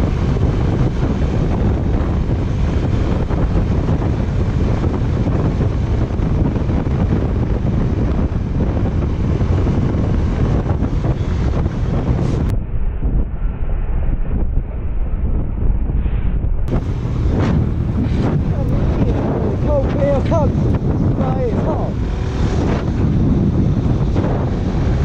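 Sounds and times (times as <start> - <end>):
moving vehicle on road: 0.0 - 25.0
wind buffeting microphone: 0.0 - 25.0.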